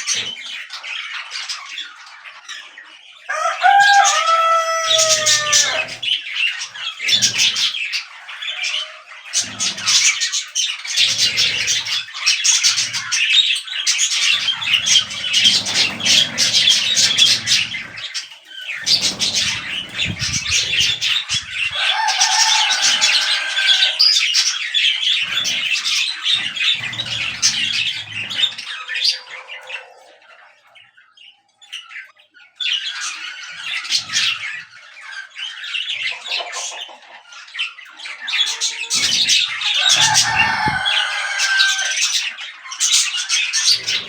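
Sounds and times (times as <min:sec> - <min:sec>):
budgerigars chattering and chirping: 0:00.0 - 0:44.0.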